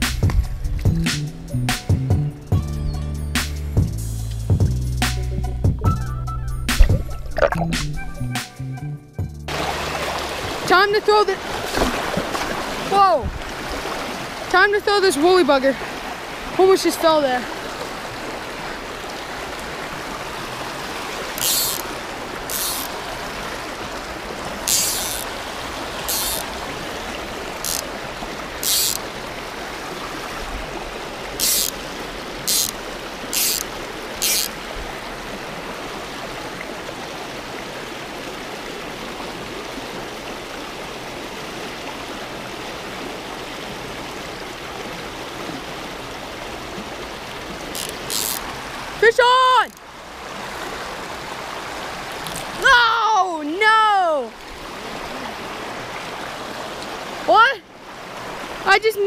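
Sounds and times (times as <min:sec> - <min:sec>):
creek water running: 0:06.7 - 0:08.2, 0:09.5 - 0:59.0.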